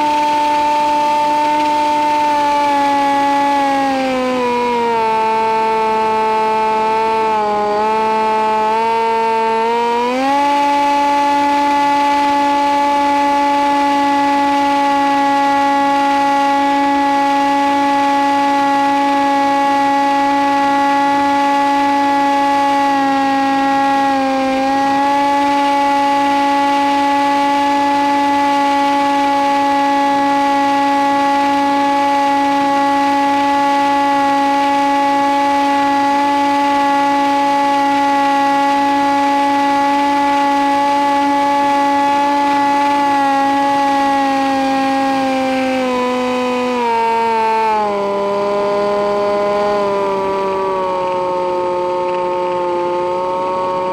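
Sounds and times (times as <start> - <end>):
model plane motor whine: 0.0 - 53.9.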